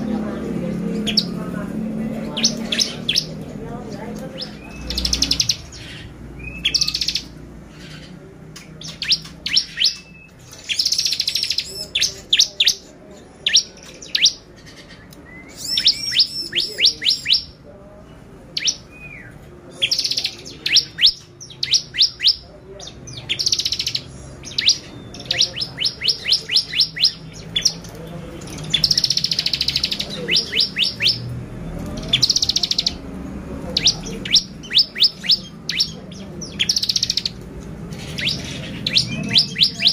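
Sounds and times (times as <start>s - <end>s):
bird singing buzzy trills: 0.0s - 39.9s.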